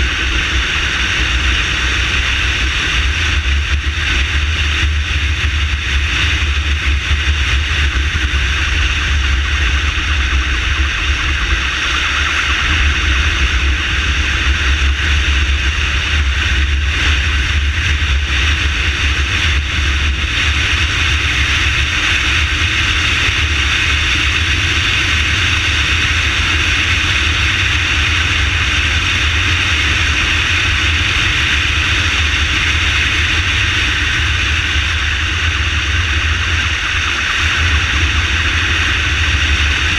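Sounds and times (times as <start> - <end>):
motorcycle engine drone: 0.0 - 39.9
wind rushing on microphone: 0.0 - 39.9.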